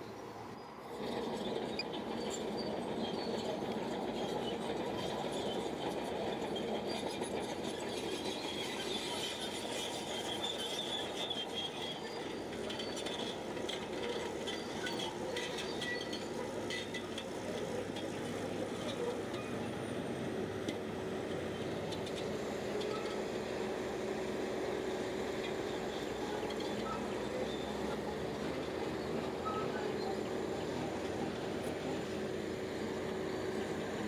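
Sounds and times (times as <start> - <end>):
bulldozer engine running: 0.0 - 34.0
high squeaks from steel tracks: 0.1 - 34.0
metallic clinks from tracks: 1.0 - 19.8, 21.5 - 32.3.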